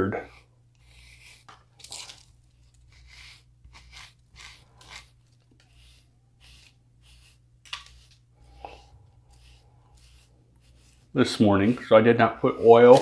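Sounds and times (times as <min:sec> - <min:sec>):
brush bristles rasping through beard: 0:00.0 - 0:13.0.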